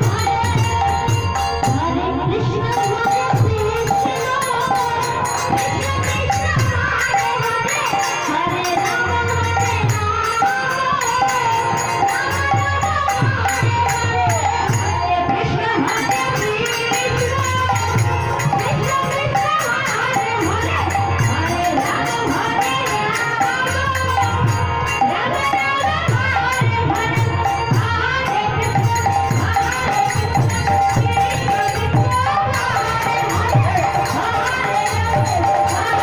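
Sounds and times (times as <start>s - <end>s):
harmonium: 0.0s - 36.0s
people singing: 0.0s - 36.0s.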